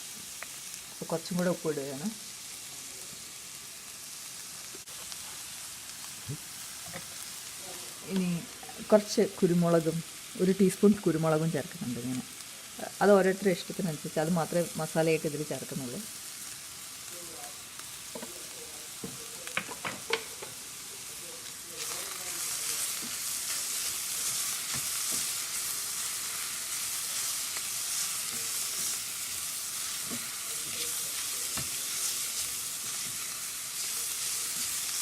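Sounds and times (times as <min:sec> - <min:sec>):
vegetables sizzling in a pan: 0:00.0 - 0:35.0.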